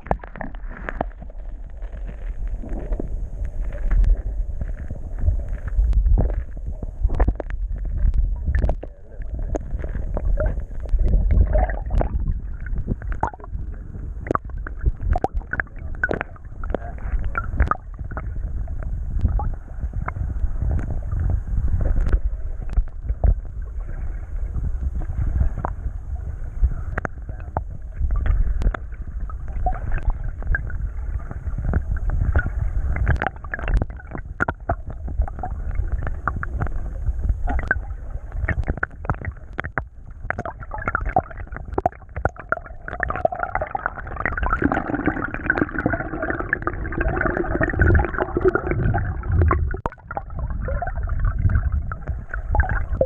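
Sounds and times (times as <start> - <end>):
low rumble: 0.0 - 53.0
muffled underwater sloshing: 0.0 - 53.0.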